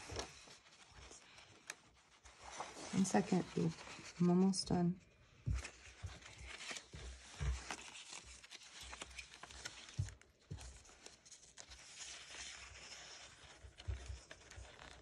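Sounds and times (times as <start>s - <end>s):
paper rustling: 0.0s - 15.0s.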